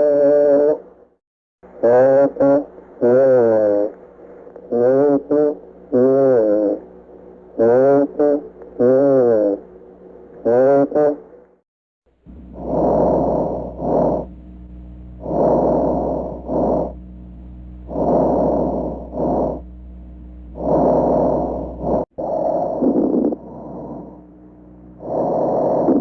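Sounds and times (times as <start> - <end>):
steady low hum: 0.1 - 26.0.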